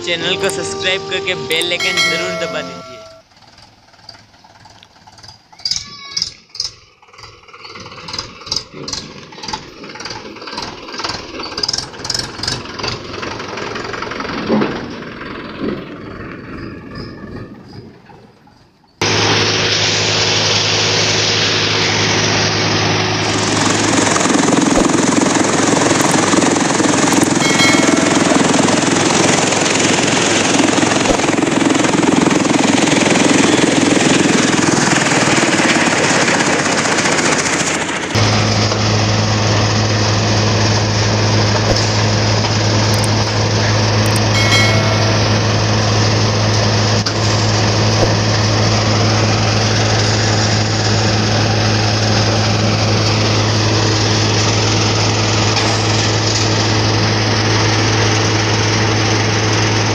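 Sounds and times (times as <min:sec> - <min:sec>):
tractor engine driving thresher: 0:00.0 - 0:17.0, 0:19.0 - 0:59.9.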